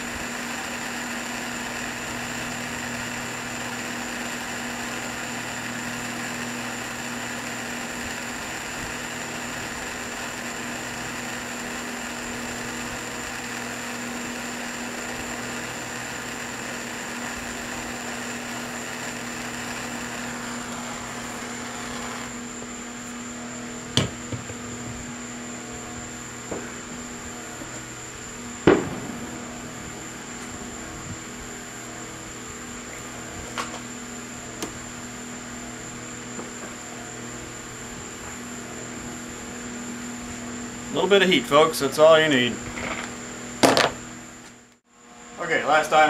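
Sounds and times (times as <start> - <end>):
heat gun fan whine: 0.0 - 46.0.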